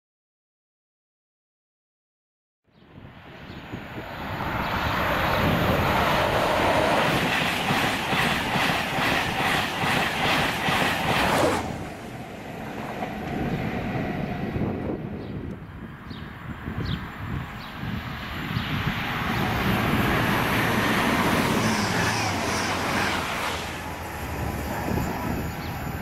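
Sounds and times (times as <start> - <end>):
train passing at speed: 2.9 - 26.0
faint train rumble: 3.1 - 26.0.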